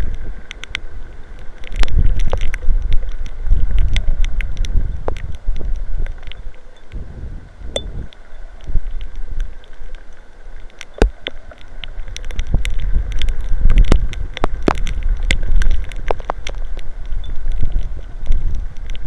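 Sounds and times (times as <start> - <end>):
wind gusting over microphone: 0.0 - 9.6, 11.8 - 19.0
raindrops hitting camera: 0.0 - 19.0.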